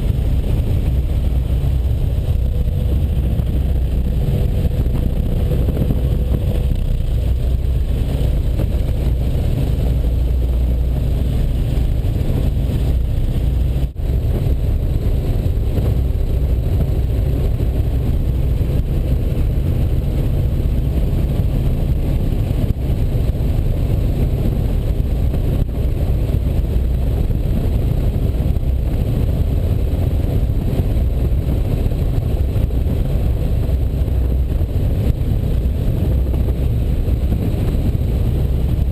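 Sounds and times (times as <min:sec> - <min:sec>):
helicopter engine and rotors drone: 0:00.0 - 0:38.9.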